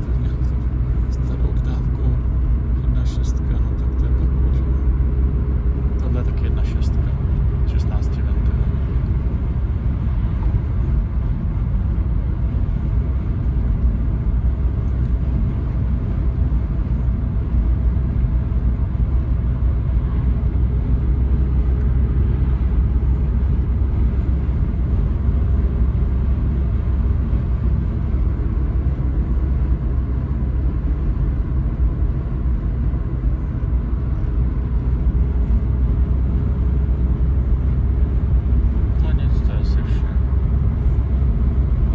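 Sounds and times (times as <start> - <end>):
car engine running: 0.0 - 41.9
tyre and road noise: 0.0 - 41.9.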